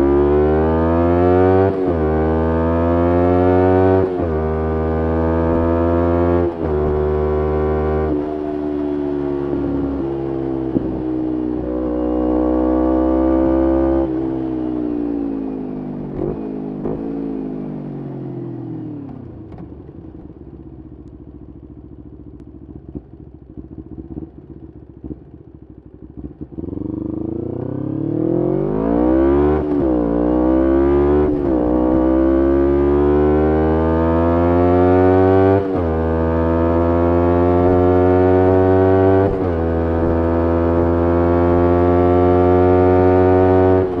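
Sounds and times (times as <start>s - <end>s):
motorcycle engine revving: 0.0s - 20.4s, 21.6s - 44.0s.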